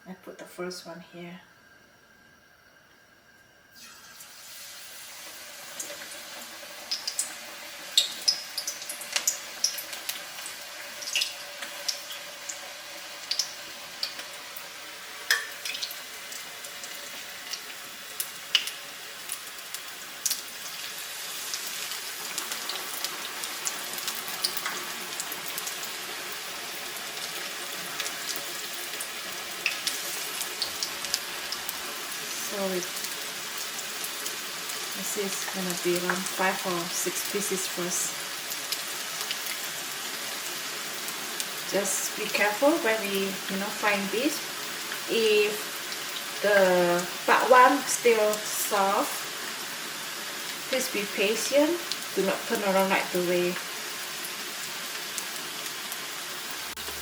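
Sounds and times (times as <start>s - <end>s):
batter deep-frying in oil: 3.6s - 57.0s.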